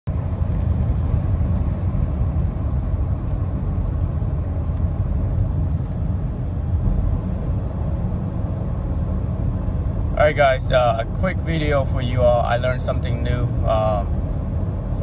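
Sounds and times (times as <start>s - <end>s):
wind noise inside car: 0.0s - 15.0s
tyres rumbling on road: 0.1s - 15.0s.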